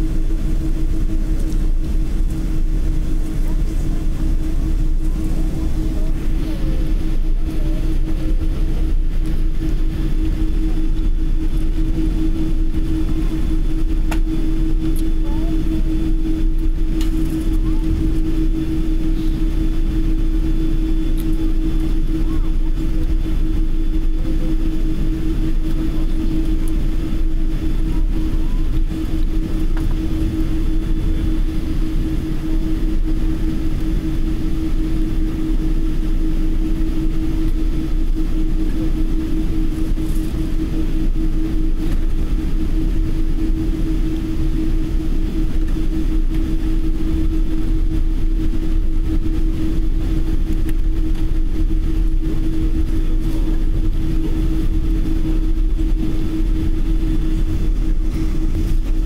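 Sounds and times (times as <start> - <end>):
constant low hum: 0.0 - 59.0
jet engines deep rumble: 0.0 - 59.0.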